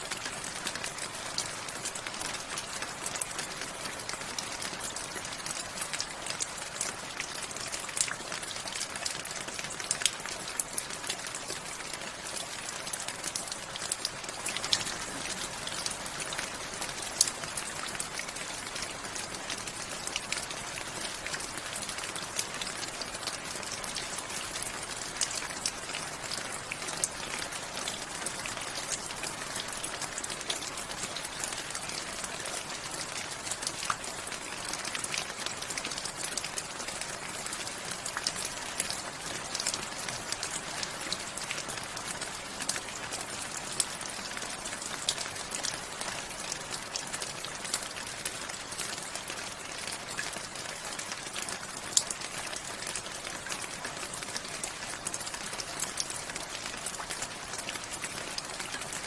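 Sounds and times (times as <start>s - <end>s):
rain pattering on hard surface: 0.0s - 59.0s.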